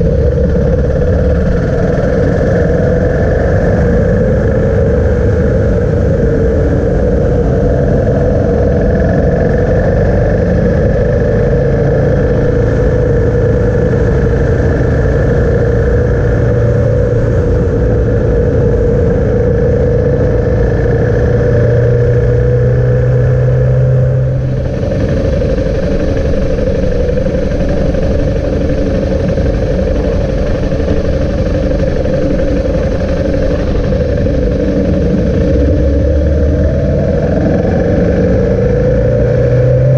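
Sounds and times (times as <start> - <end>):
road and wind noise: 0.0 - 39.9
vehicle drone: 0.0 - 39.9.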